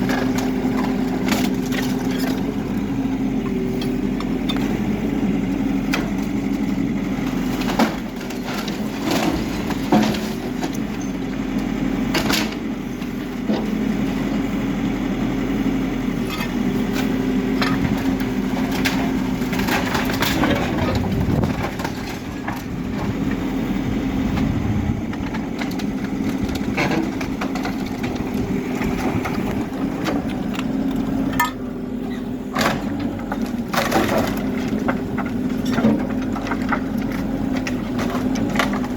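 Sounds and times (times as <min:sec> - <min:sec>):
wood and rubble cracking: 0:00.0 - 0:14.3, 0:16.2 - 0:23.5, 0:24.3 - 0:31.6, 0:32.5 - 0:38.9
diesel engine running: 0:00.0 - 0:38.9.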